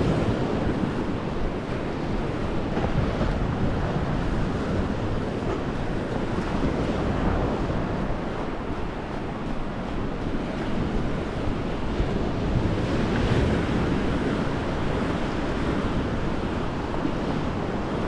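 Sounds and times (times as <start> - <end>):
sea surf: 0.0 - 18.0
wind buffeting microphone: 0.0 - 18.0.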